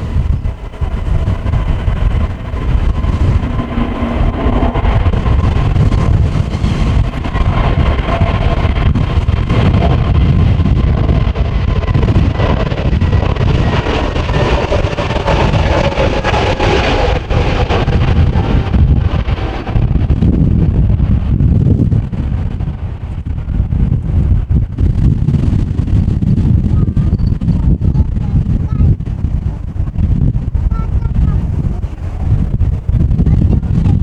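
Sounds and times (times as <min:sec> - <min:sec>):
jet engines whining: 0:00.0 - 0:34.0
wind buffeting microphone: 0:00.0 - 0:34.0.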